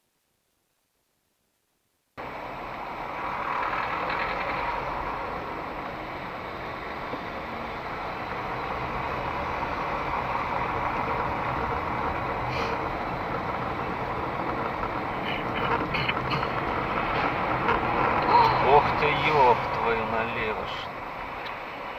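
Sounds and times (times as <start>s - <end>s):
car road and engine noise: 2.2s - 21.9s.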